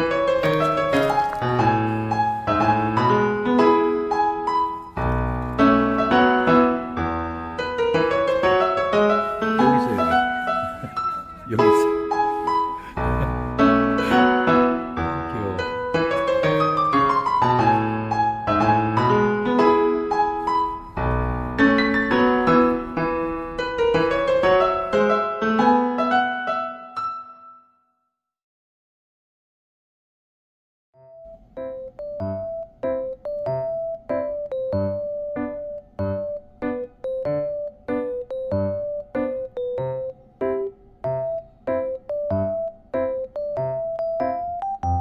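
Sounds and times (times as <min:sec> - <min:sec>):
gentle piano music: 0:00.0 - 0:27.9, 0:31.0 - 0:45.0.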